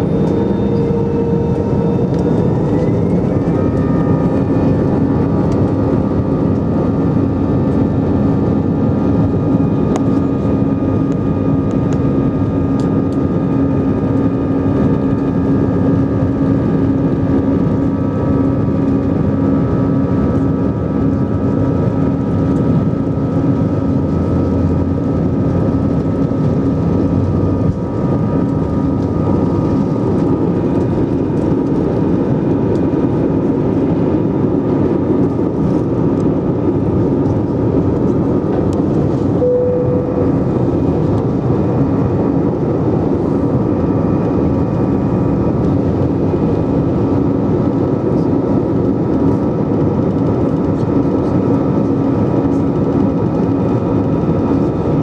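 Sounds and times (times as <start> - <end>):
jet engines at take-off thrust: 0.0 - 55.0.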